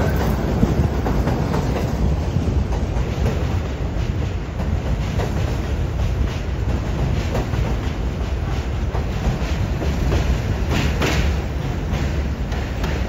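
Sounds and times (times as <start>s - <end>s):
subway train rumble: 0.0s - 13.0s
wheels clicking on rails: 0.0s - 13.0s.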